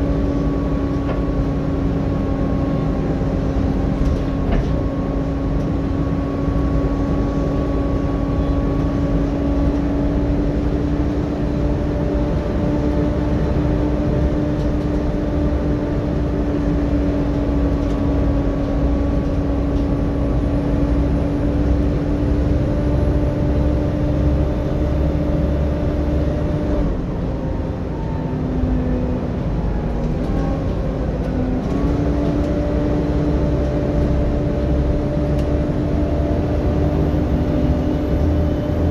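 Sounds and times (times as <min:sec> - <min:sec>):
bus engine droning: 0:00.0 - 0:38.9
cooling fan whine: 0:00.0 - 0:38.9.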